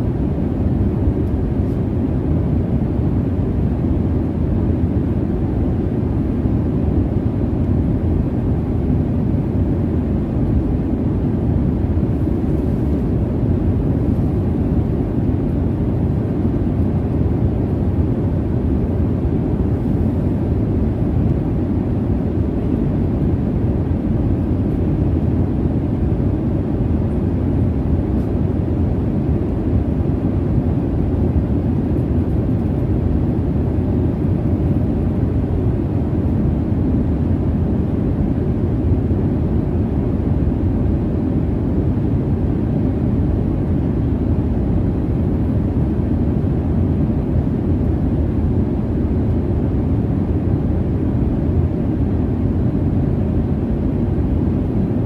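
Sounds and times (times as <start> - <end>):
jet airliner cabin roar: 0.0 - 55.0.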